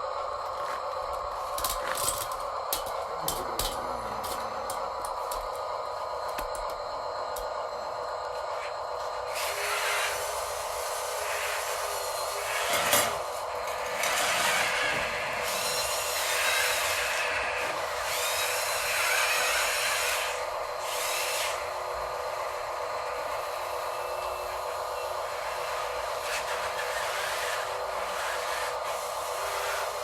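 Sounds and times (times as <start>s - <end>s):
electric motors whining: 0.0s - 30.0s.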